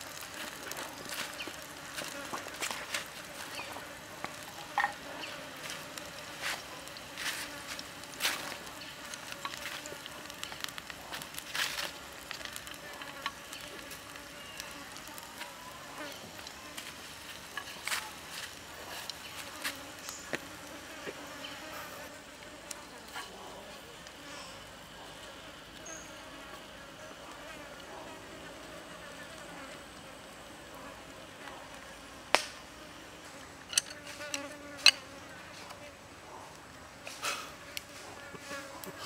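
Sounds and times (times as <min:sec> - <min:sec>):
fly buzzing: 0:00.0 - 0:23.5, 0:25.4 - 0:36.0.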